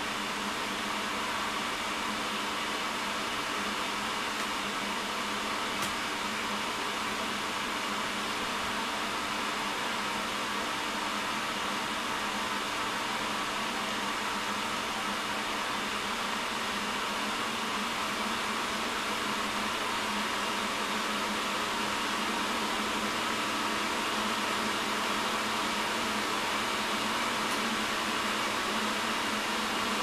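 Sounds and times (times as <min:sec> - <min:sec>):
cooling fan rushing: 0:00.0 - 0:30.0.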